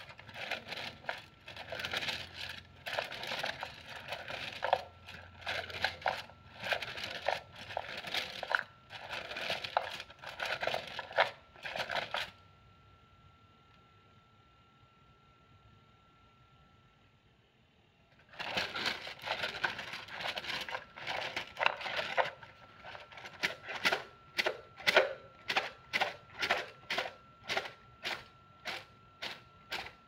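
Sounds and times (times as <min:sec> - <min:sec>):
sticks rattling in a cylinder: 0:00.0 - 0:12.3, 0:18.2 - 0:30.0.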